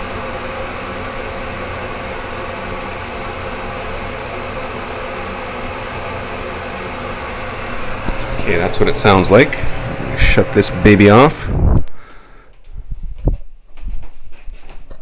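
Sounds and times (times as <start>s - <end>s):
exhaust fan running: 0.0s - 14.9s.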